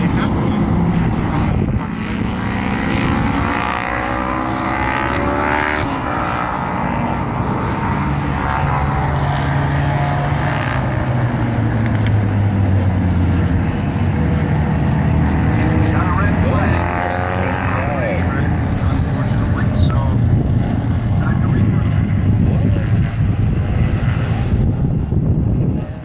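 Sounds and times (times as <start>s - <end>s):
lower steady engine note: 0.0s - 26.0s
motorcycle engine accelerating: 0.0s - 26.0s.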